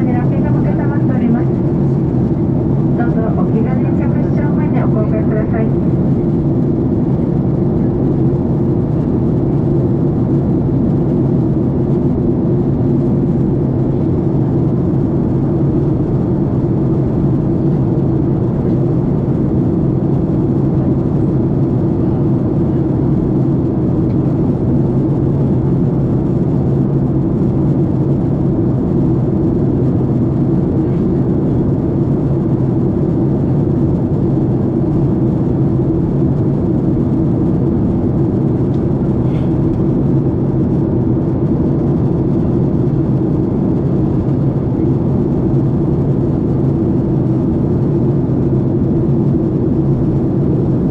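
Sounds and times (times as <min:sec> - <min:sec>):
airliner cabin engine drone: 0:00.0 - 0:50.9.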